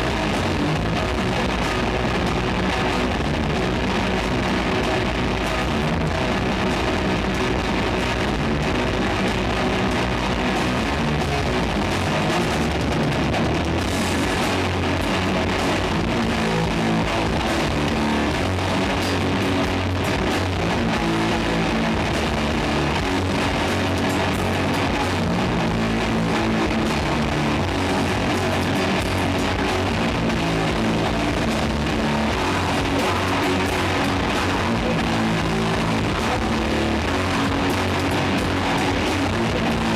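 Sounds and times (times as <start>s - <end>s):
distorted guitars and bass: 0.0s - 39.9s
drums: 0.0s - 39.9s.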